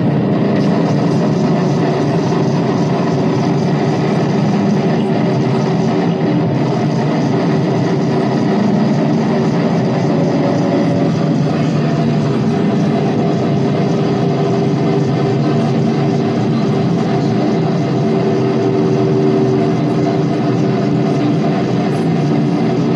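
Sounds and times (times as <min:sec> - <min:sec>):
noise music rumble: 0:00.0 - 0:22.9.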